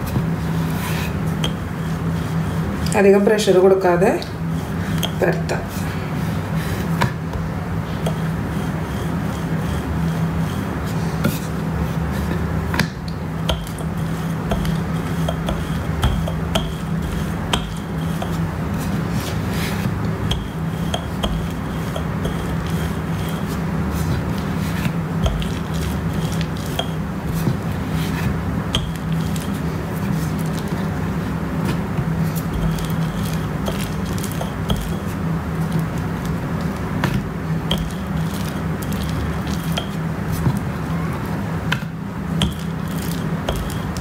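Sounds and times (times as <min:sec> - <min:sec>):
rolling pin on wooden board: 0:00.0 - 0:02.8, 0:06.6 - 0:40.7, 0:41.6 - 0:44.0
steady low hum: 0:00.0 - 0:44.0.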